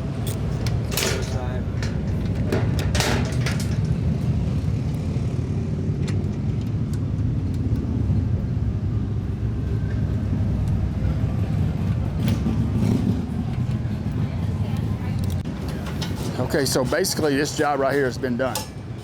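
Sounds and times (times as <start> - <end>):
steady low rumble: 0.0 - 15.7.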